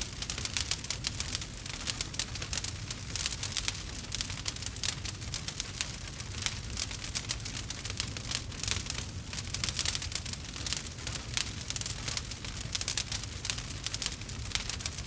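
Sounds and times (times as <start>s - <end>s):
campfire crackling and popping: 0.0s - 15.0s
low rumble of fire: 0.0s - 15.0s.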